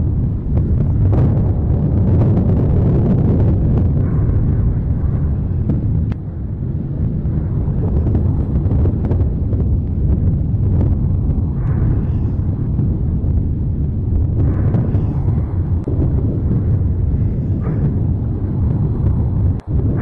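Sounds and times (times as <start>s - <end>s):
deep volcanic rumble: 0.0s - 20.0s.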